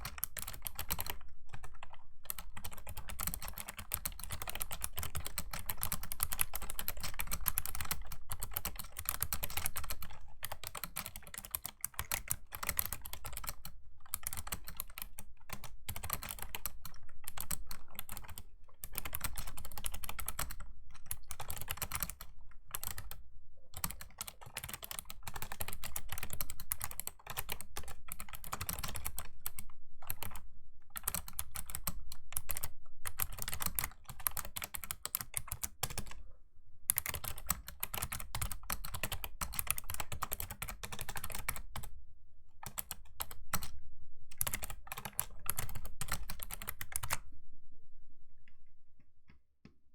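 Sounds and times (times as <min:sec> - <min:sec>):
fast keyboard typing: 0:00.0 - 0:23.2, 0:23.8 - 0:36.2, 0:36.9 - 0:41.9, 0:42.6 - 0:47.2.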